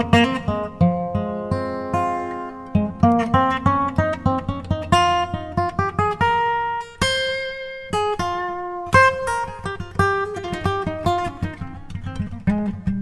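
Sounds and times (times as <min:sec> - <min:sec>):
acoustic guitar plucked notes: 0:00.0 - 0:13.0.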